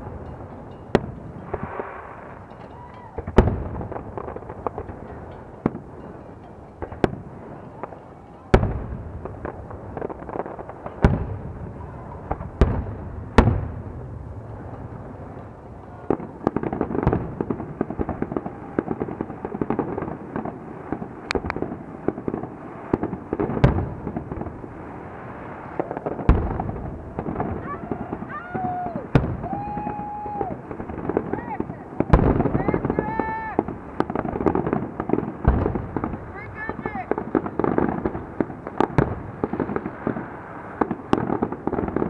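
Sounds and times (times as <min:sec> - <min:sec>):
firework crackling: 0:00.0 - 0:42.0
firework shells booming: 0:00.0 - 0:42.0.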